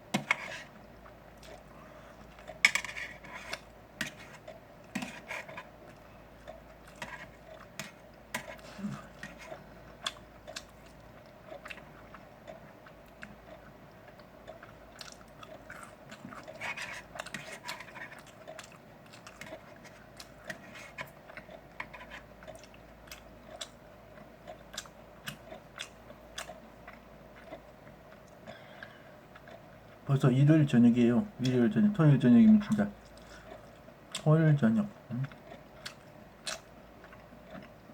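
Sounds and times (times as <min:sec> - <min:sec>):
person chewing: 0:00.2 - 0:30.0, 0:33.0 - 0:34.3, 0:35.1 - 0:37.9.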